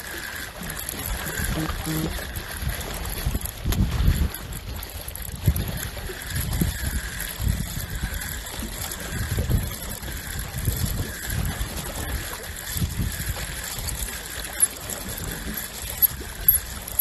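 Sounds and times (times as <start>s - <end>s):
seawater washing at shoreline: 0.0s - 17.0s.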